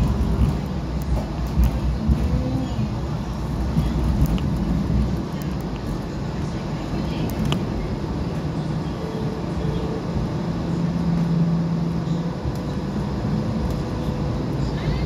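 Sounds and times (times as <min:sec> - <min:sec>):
tram car low rumble: 0:00.0 - 0:15.0.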